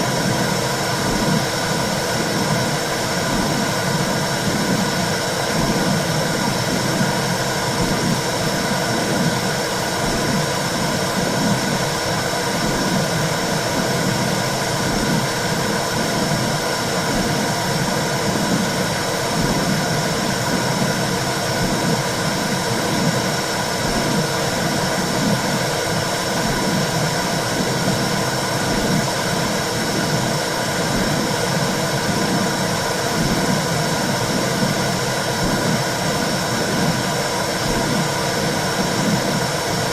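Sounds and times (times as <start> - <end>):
low whooshing heartbeat pulse: 0.0 - 39.5
steady rushing noise: 0.0 - 39.9.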